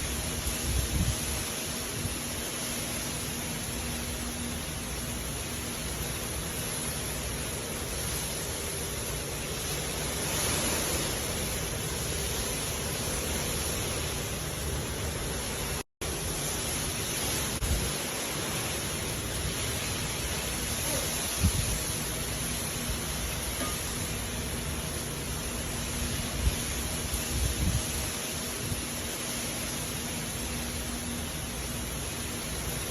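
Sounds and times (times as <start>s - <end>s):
hard rain falling: 0.0s - 32.9s.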